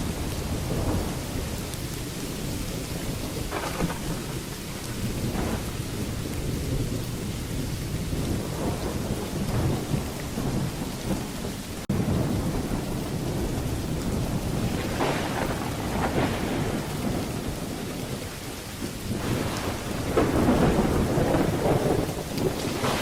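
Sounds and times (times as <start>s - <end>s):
heavy rain: 0.0s - 23.0s
low rumble of thunder: 0.0s - 23.0s.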